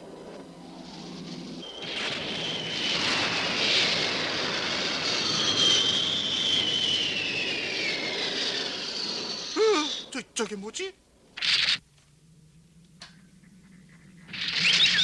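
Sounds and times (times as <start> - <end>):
cartoon jet engine roar: 0.0 - 10.8, 13.3 - 15.0.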